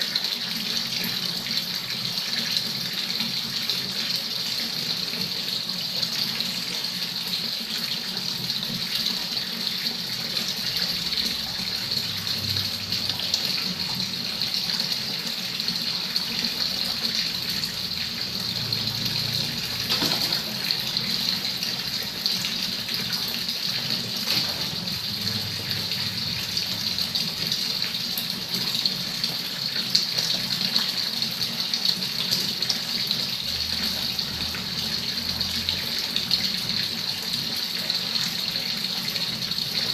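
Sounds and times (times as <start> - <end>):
water pouring into a pond: 0.0 - 39.9.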